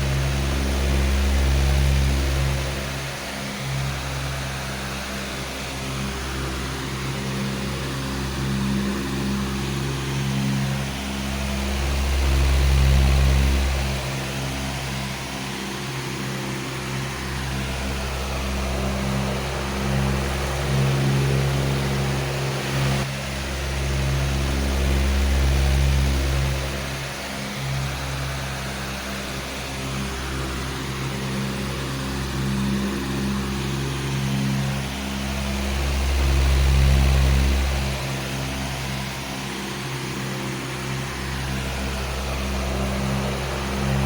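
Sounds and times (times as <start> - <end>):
electric fan running: 0.0 - 44.0.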